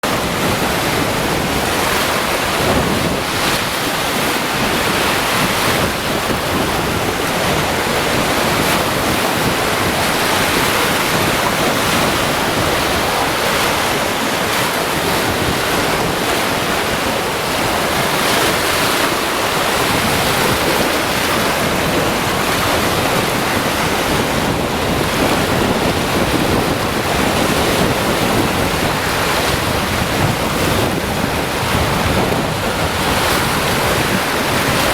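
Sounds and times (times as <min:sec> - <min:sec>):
waves washing onto beach: 0:00.0 - 0:34.9
wind buffeting microphone: 0:00.0 - 0:34.9.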